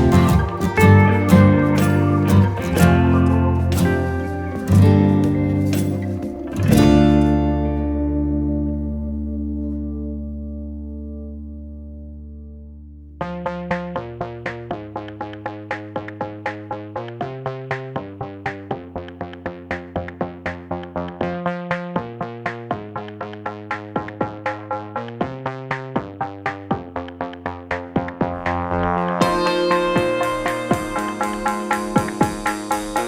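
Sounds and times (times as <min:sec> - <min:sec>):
electronic music with plucked notes: 0:00.0 - 0:33.0.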